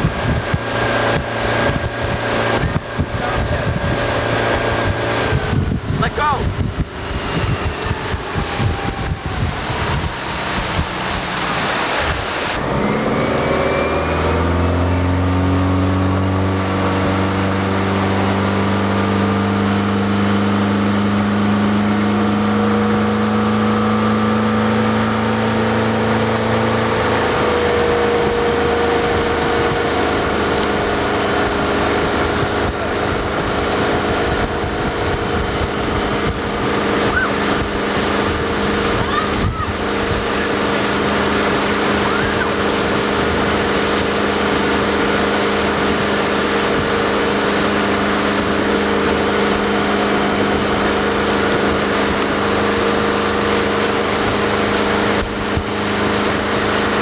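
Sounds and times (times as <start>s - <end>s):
motorboat engine running: 0.0s - 57.0s
water noise: 0.0s - 57.0s
wind noise: 0.0s - 57.0s.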